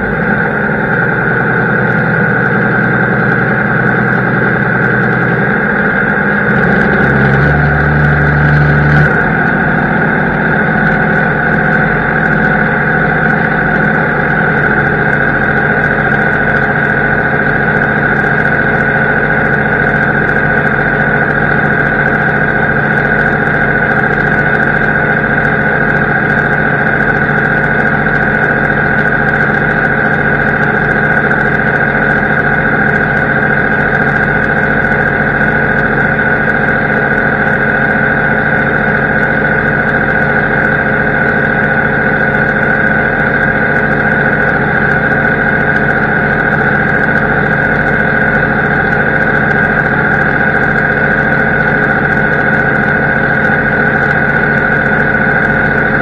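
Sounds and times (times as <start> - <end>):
farm machinery engine droning: 0.0 - 56.0
steady machine whine: 0.0 - 56.0.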